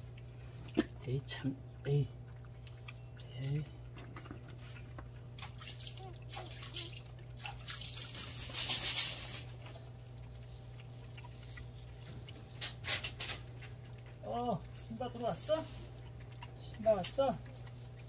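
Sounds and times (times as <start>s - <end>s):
dog lapping and chewing: 0.0s - 18.0s.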